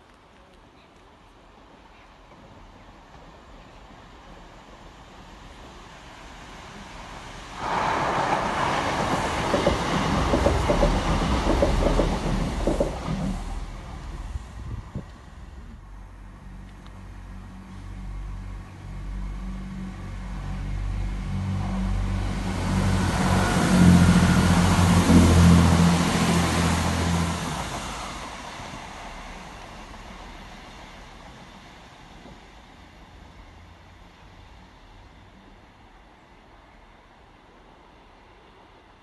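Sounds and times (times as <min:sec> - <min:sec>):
wheel and rail noise: 0:00.0 - 0:36.4
diesel train engines humming: 0:06.6 - 0:38.7.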